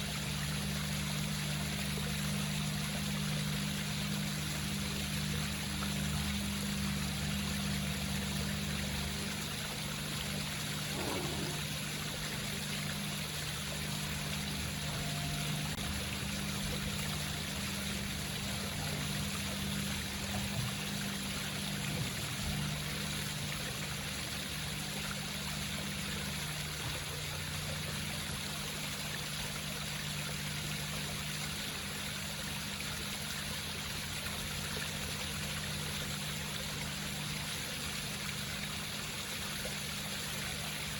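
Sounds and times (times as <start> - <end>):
water trickling over rocks: 0.0 - 40.9.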